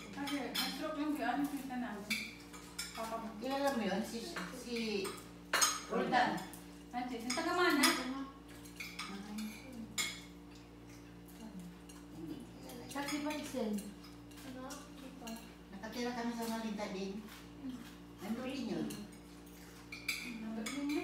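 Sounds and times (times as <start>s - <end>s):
cutlery clinking on plates: 0.0s - 0.8s, 1.4s - 15.6s, 17.3s - 21.0s
steady low hum: 0.0s - 21.0s.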